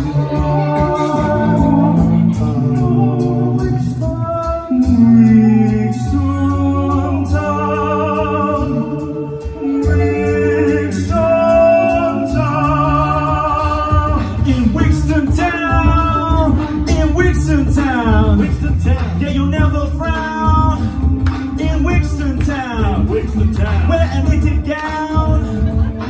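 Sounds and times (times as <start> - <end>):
deep sung bass line: 0.0 - 26.0
male a cappella group singing: 0.0 - 26.0
vocal percussion ticks: 0.0 - 26.0.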